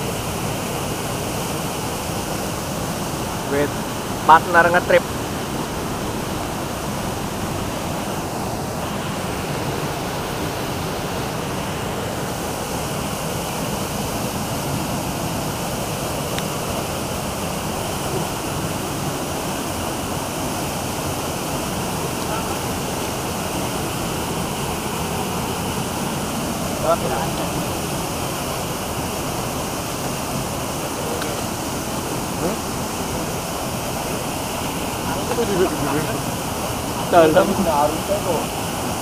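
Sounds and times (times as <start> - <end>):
river flowing over stones: 0.0 - 39.0
waterfall pouring into pool: 0.0 - 39.0.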